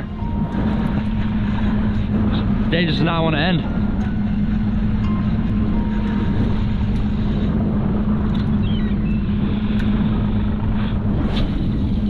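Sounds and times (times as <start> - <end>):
boat engine running: 0.0 - 12.0
rushing noise: 0.0 - 12.0.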